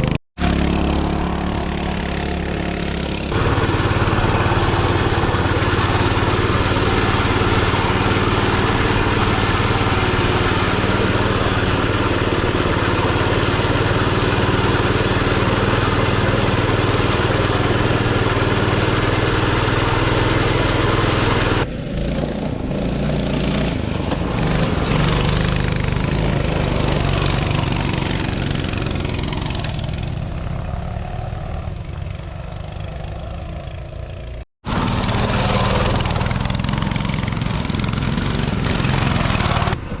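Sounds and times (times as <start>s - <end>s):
mini bike engine running: 0.0s - 40.0s.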